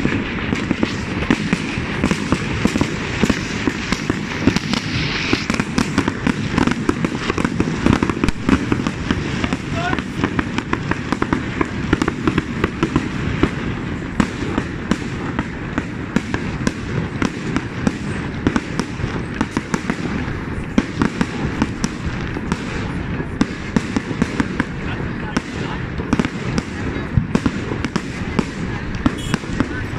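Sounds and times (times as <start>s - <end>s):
fireworks bangs and crackles: 0.0s - 29.9s
low rumble of bursting shells: 0.0s - 29.9s.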